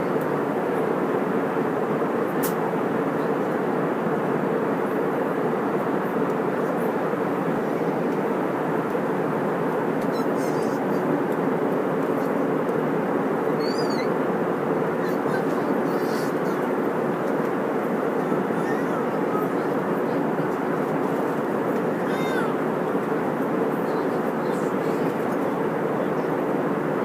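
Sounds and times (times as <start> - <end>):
airliner cabin engine rush: 0.0 - 27.0.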